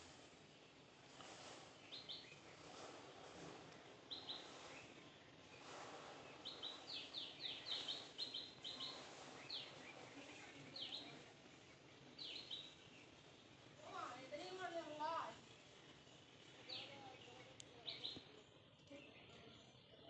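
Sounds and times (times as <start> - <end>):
faint background hiss: 0.0 - 20.0
small bird chirping: 1.4 - 3.0, 4.0 - 20.0.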